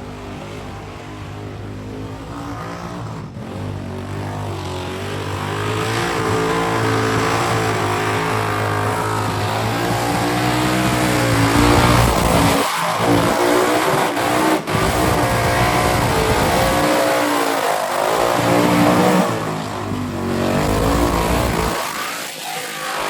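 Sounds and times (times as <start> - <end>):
car engine revving high: 0.0 - 23.0.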